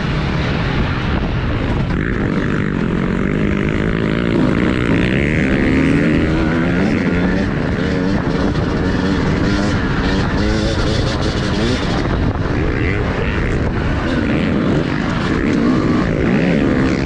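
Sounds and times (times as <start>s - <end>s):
motocross bike engine revving: 1.6s - 17.0s.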